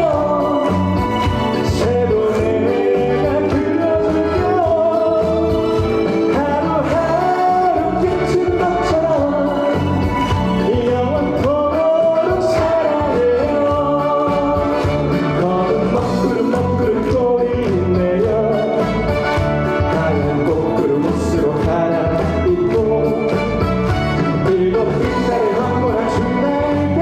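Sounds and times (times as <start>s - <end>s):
instrumental backing track: 0.0s - 27.0s.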